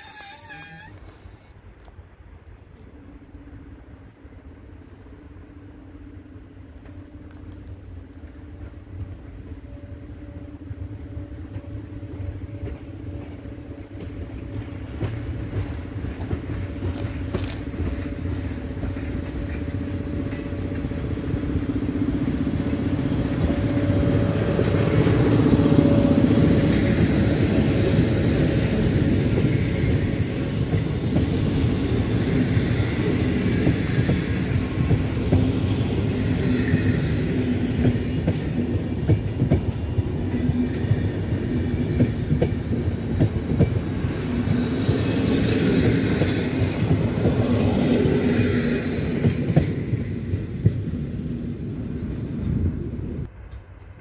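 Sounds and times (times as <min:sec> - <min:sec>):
train carriages rumbling: 0:06.0 - 0:54.0.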